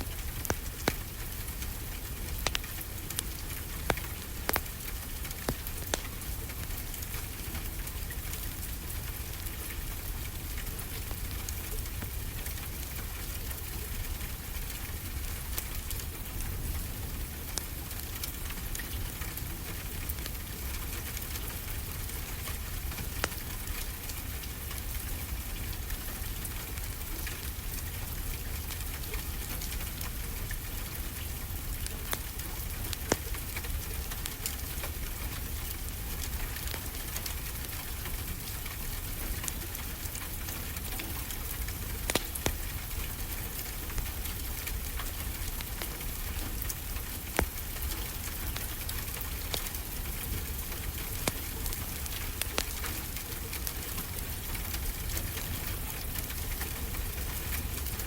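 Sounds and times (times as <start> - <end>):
steady rain falling: 0.0 - 58.0
wood fire crackling: 0.0 - 58.0.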